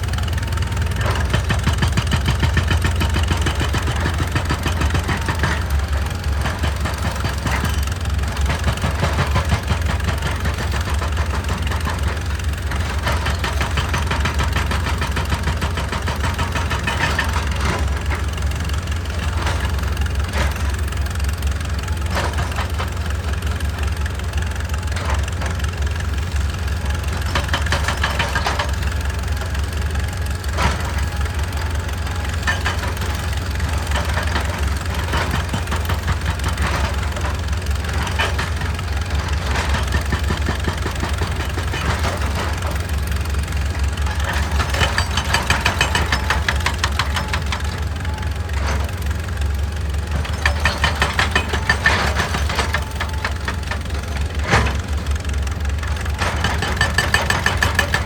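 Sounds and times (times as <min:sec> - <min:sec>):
excavator diesel engine running: 0:00.0 - 0:58.0
machine clanking and scraping on rock: 0:00.0 - 0:58.0.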